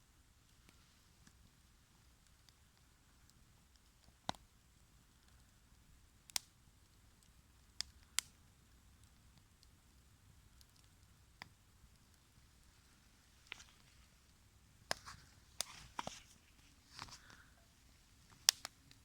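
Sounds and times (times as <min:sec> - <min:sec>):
low steady background noise: 0:00.0 - 0:19.0
wood fire crackling: 0:00.1 - 0:19.0
burning wood popping: 0:00.4 - 0:19.0.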